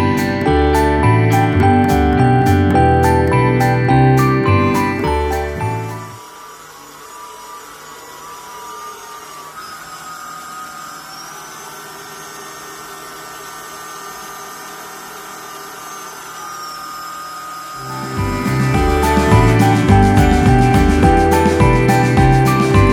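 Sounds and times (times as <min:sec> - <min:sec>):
vacuum cleaner motor whine: 0:03.0 - 0:22.9.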